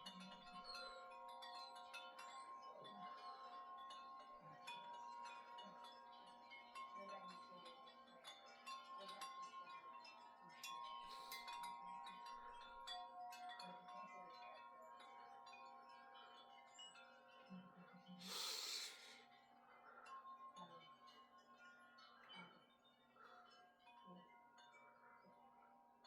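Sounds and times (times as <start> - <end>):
wind chimes ringing: 0.0 - 26.0.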